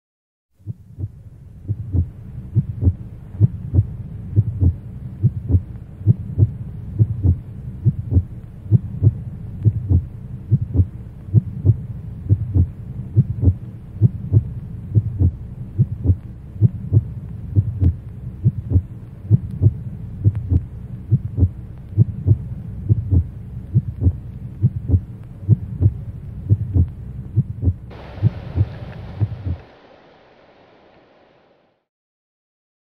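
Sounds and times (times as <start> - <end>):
heartbeat thumping: 0.6 - 29.7
low steady hum: 0.6 - 31.9.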